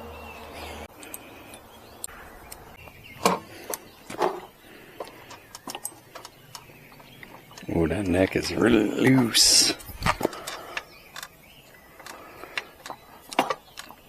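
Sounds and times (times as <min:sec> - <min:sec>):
light clicks and metallic ticks: 0:00.9 - 0:04.2, 0:04.9 - 0:14.0.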